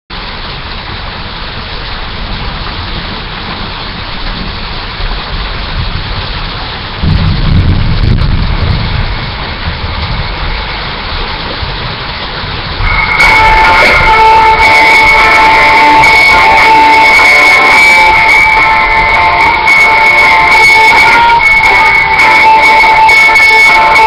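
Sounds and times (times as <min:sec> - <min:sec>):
low rumble: 0:00.2 - 0:22.7.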